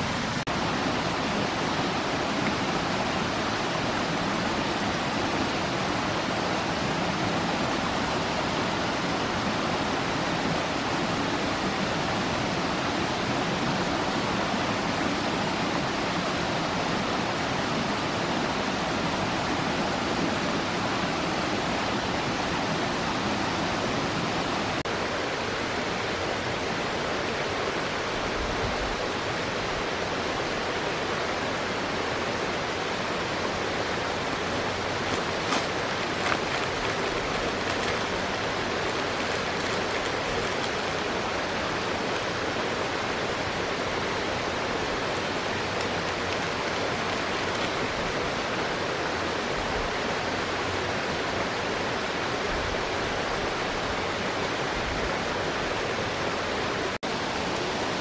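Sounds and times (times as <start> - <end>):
rushing water of a stream: 0.0 - 58.0.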